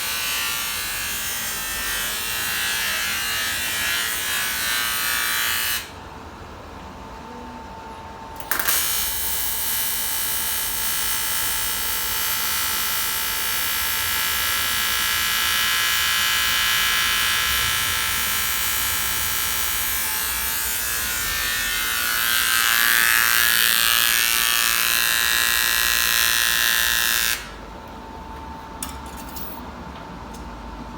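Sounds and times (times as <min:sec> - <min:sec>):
welding arc buzzing: 0:00.0 - 0:06.0, 0:08.4 - 0:27.6.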